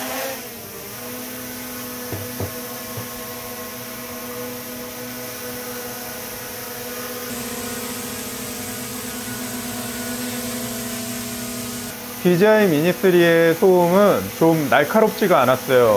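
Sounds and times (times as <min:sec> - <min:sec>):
drone motors whining: 0:00.0 - 0:14.8.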